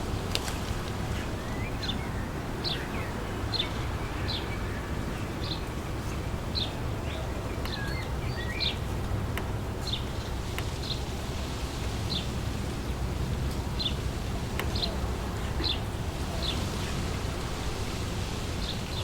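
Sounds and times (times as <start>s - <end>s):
wind gusting through trees: 0.0s - 19.0s.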